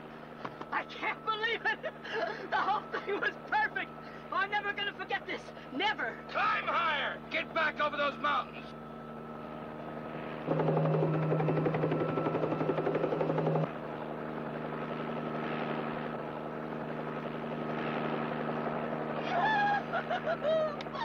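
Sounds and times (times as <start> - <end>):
helicopter rotor drone: 0.0 - 21.0.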